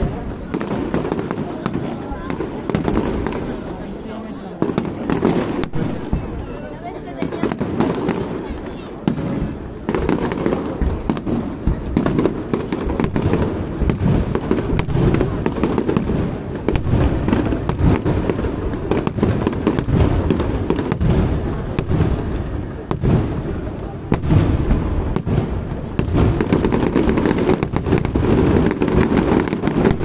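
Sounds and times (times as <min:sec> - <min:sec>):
fireworks cracks and bangs: 0:00.0 - 0:30.0.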